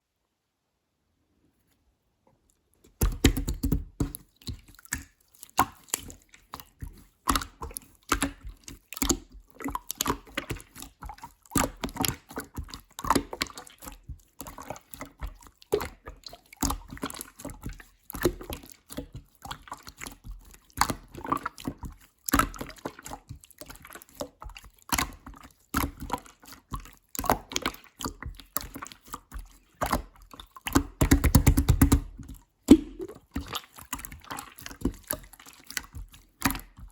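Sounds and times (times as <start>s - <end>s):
slime squished by hand: 2.9s - 23.2s, 27.2s - 36.8s.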